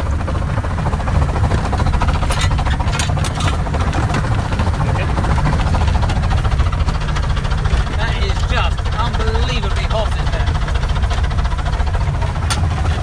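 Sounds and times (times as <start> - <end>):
rumble of wheels on rail: 0.0 - 13.0.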